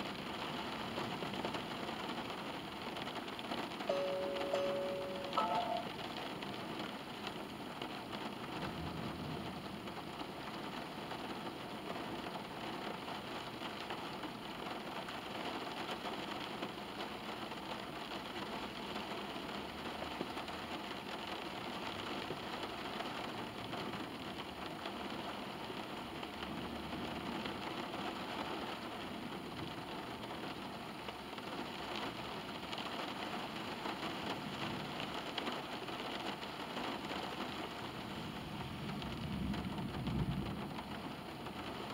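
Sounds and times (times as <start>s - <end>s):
rain on a car roof: 0.0s - 41.9s.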